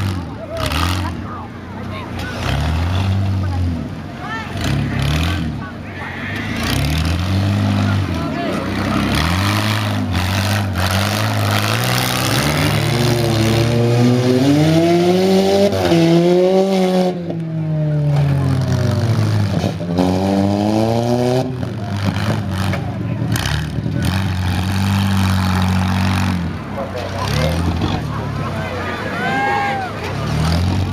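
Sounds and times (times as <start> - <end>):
engines revving hard: 0.0 - 30.9
steady engine drone: 0.3 - 30.9.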